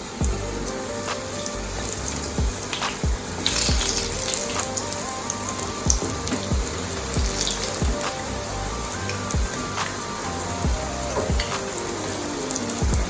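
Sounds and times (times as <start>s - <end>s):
background music with low beat: 0.0s - 13.0s
steady hiss: 0.0s - 13.0s.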